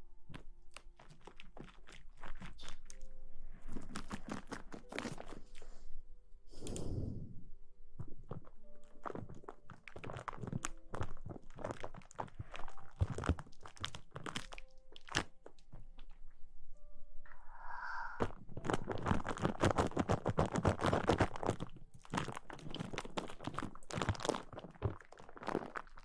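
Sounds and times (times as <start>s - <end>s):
close rustling crackles and taps: 0.3s - 5.6s, 8.0s - 16.4s, 18.2s - 26.0s.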